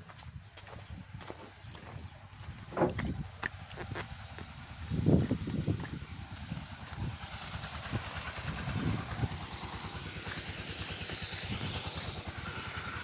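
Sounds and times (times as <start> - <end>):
small engine running: 0.2 - 13.0.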